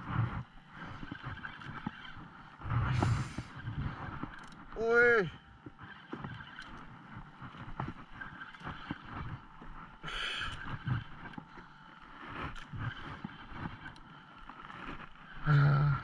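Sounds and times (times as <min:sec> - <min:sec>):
water around boat: 0:00.0 - 0:16.0
wind: 0:00.0 - 0:16.0.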